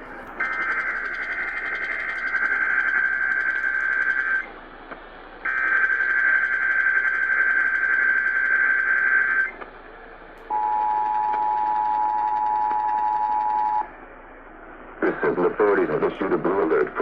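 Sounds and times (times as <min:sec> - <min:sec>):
radio hiss: 0:00.0 - 0:17.0.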